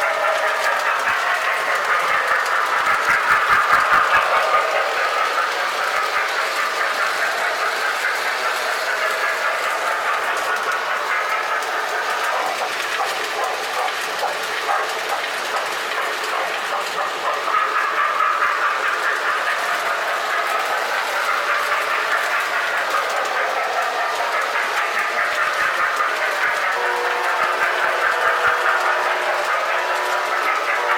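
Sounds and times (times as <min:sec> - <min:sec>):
toy train wheels rattling on rails: 0:00.0 - 0:30.9.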